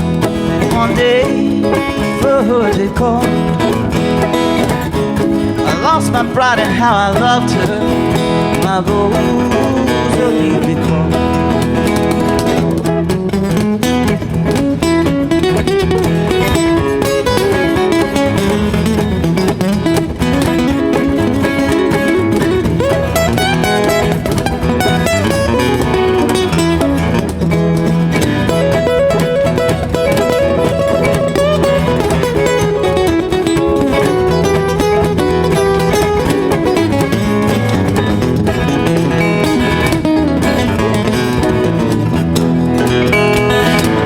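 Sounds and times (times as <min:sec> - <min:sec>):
cajon beat: 0:00.0 - 0:44.0
lead guitar picking melody: 0:00.0 - 0:44.0
strummed rhythm guitars: 0:00.0 - 0:44.0.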